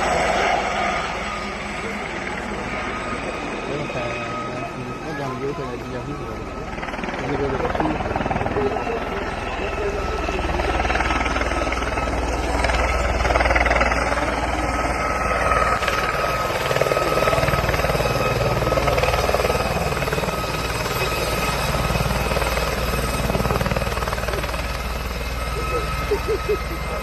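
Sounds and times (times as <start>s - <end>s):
helicopter rotor chopping: 0.0s - 27.0s
steady high tone: 0.0s - 27.0s.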